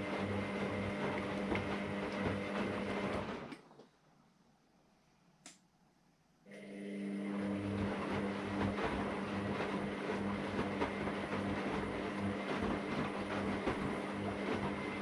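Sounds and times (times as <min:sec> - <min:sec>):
washing machine motor humming: 0:00.0 - 0:03.7, 0:06.5 - 0:15.0.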